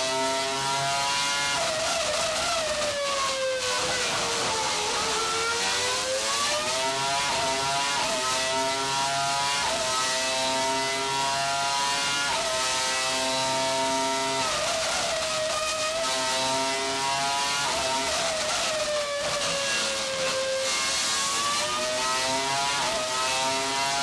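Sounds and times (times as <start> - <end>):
racing engine revving: 0.0 - 24.0.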